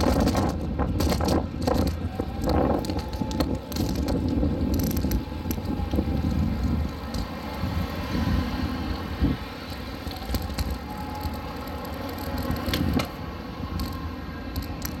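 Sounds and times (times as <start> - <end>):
street traffic: 0.0 - 15.0
wind buffeting microphone: 0.0 - 15.0.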